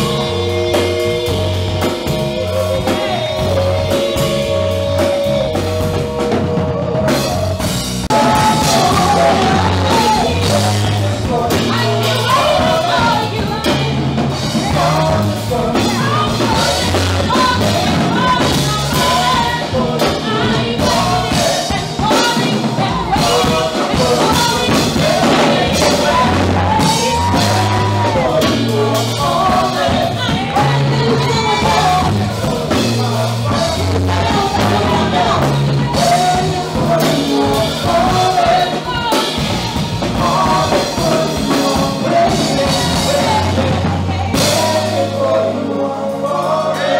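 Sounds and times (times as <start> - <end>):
bass line: 0.0 - 46.9
drum kit: 0.0 - 46.9
people singing into microphones: 0.0 - 46.9.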